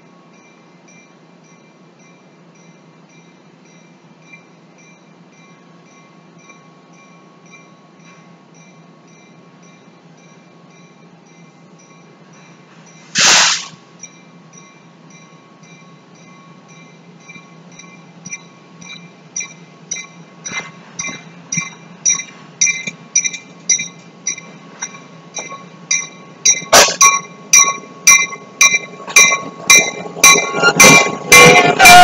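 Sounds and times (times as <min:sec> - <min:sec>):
locomotive bell ringing: 0:00.0 - 0:13.2, 0:13.9 - 0:32.0.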